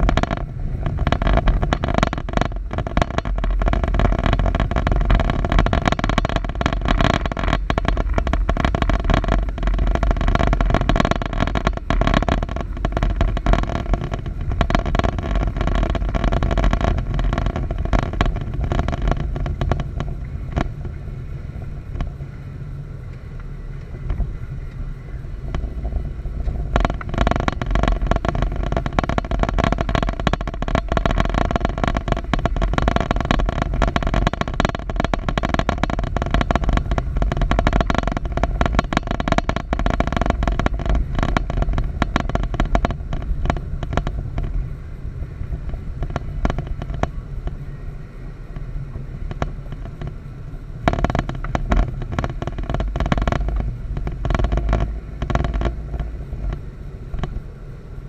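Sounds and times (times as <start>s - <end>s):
engine running steadily: 0.0s - 58.0s
rough crackly noise: 0.0s - 58.0s.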